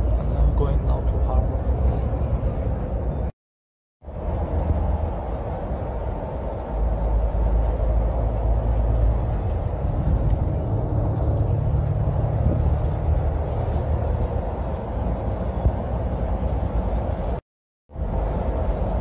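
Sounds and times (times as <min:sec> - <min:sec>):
engine and road rumble: 0:00.0 - 0:03.4, 0:04.0 - 0:19.0.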